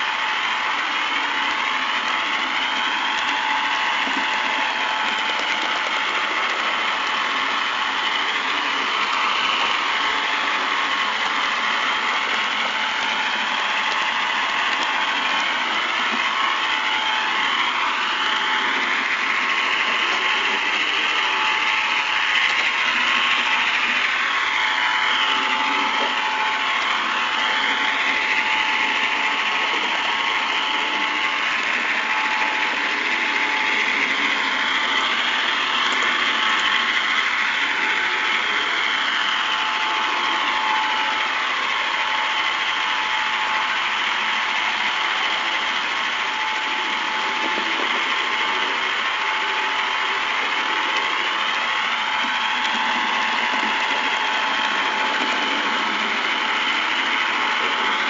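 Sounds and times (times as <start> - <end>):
model train motor whirring: 0.0 - 58.0
wheels rolling on rails: 0.0 - 58.0.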